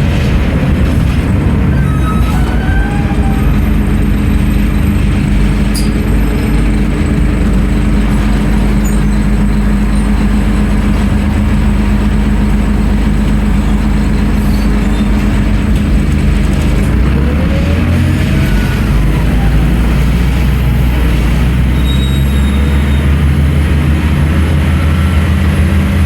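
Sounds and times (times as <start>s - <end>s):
bus diesel engine humming: 0.0s - 26.0s.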